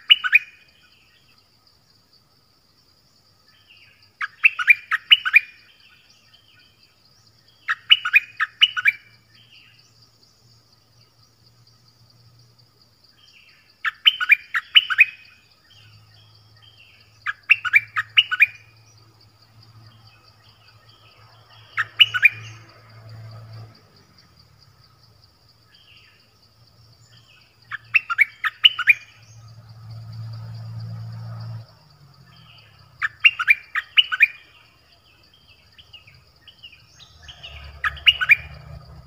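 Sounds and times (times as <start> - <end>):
songbird calling sharp notes: 0.0 - 1.4, 3.4 - 11.4, 13.1 - 24.8, 25.5 - 39.0.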